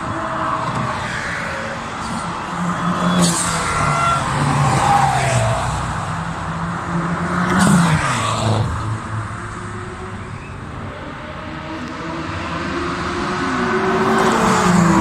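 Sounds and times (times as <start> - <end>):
cars driving past at speed: 0.0 - 15.0.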